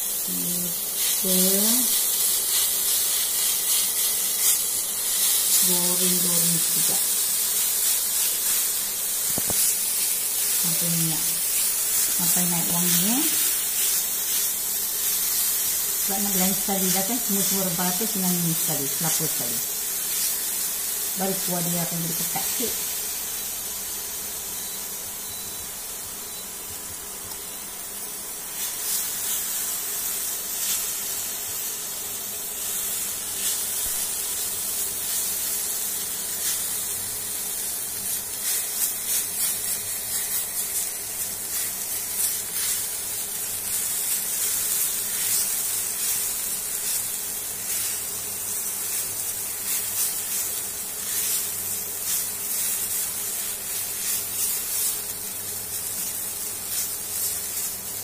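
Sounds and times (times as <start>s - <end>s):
coconut hissing in a pan: 0.0s - 58.0s.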